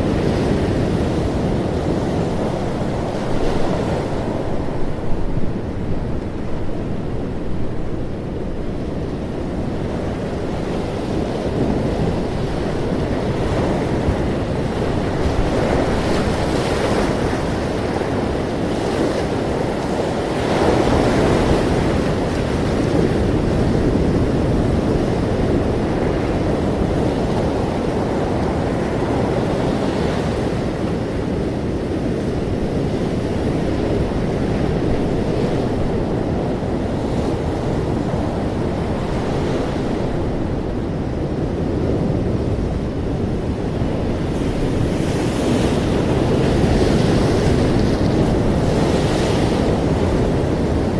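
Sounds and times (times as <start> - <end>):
ocean waves washing on shore: 0.0 - 50.9.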